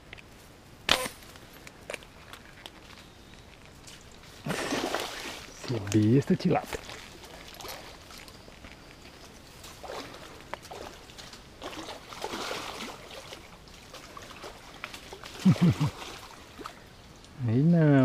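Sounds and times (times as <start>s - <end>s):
faint trickling water: 2.7s - 18.0s.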